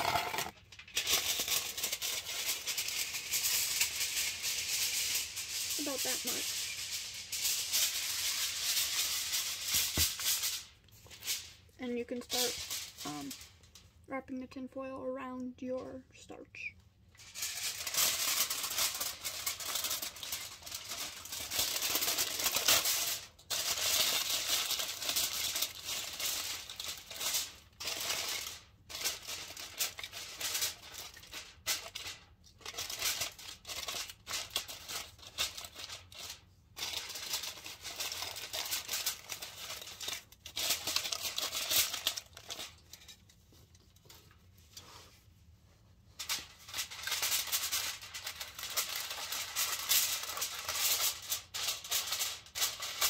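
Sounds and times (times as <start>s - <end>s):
aluminium foil crinkling: 0.0s - 14.1s, 17.0s - 53.0s.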